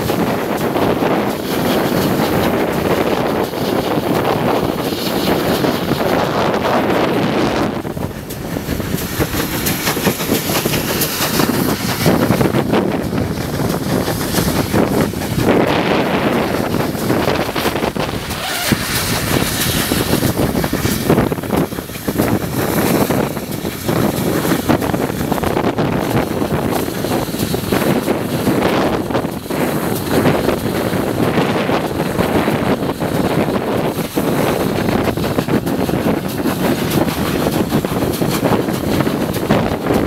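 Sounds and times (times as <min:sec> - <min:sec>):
train running noise: 0:00.0 - 0:40.0
wind buffeting microphone: 0:00.0 - 0:40.0.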